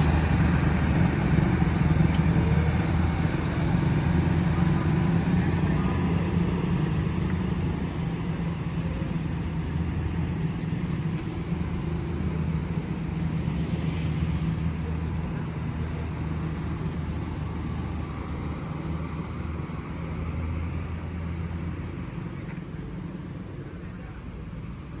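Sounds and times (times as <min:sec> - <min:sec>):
road noise: 0:00.0 - 0:25.0
vehicle engines running: 0:00.0 - 0:25.0.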